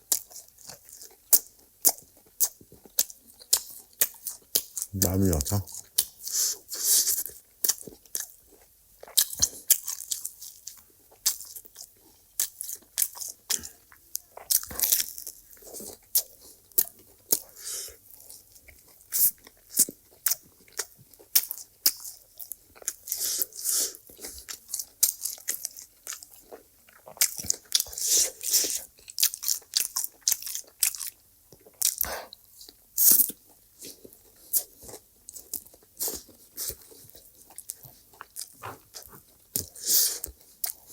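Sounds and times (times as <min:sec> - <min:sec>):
person eating with crunching bites: 0:00.1 - 0:40.9
wet chewing: 0:00.1 - 0:40.9.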